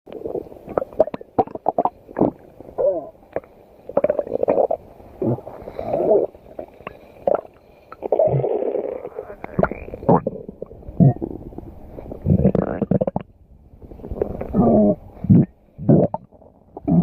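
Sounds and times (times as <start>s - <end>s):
stomach growling: 0.1s - 17.0s.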